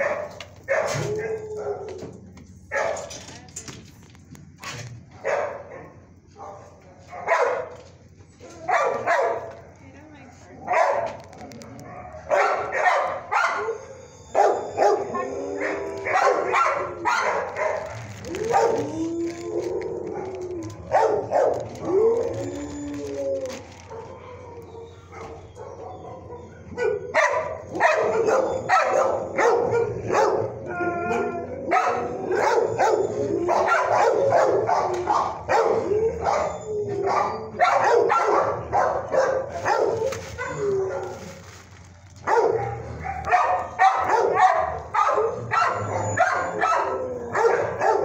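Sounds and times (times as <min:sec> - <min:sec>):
dogs barking: 0:00.0 - 0:02.1, 0:02.7 - 0:03.1, 0:05.1 - 0:07.9, 0:08.6 - 0:19.4, 0:20.0 - 0:22.4, 0:23.8 - 0:41.3, 0:42.2 - 0:48.0.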